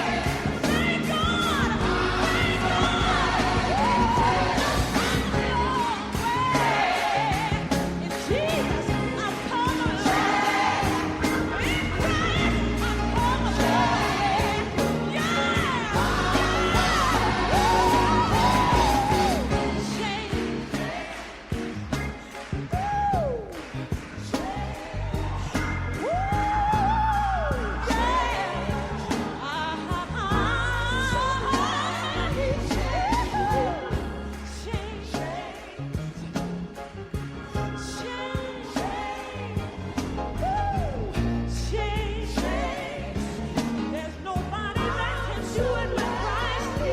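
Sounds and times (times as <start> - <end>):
band with drums and bass: 0.0 - 46.9.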